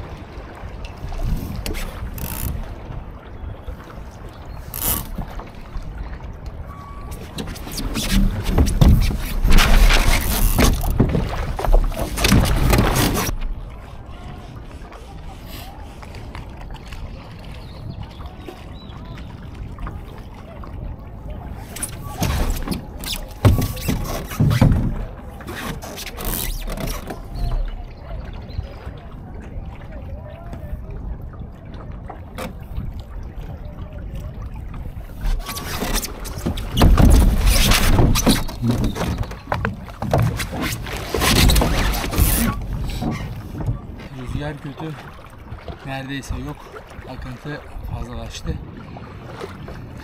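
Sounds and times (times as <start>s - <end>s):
wind rumble on microphone: 0.0s - 25.5s, 27.0s - 44.7s, 45.4s - 50.0s
water lapping against hull: 0.0s - 50.0s.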